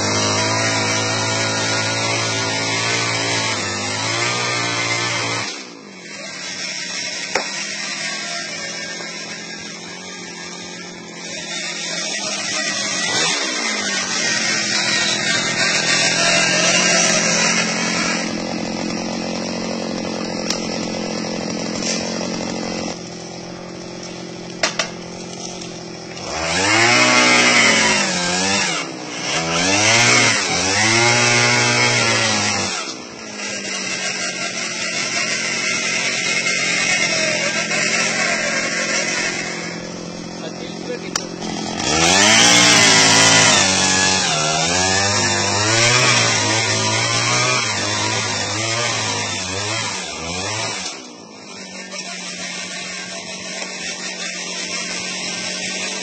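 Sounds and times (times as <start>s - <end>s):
small engine running and revving: 0.0s - 56.0s.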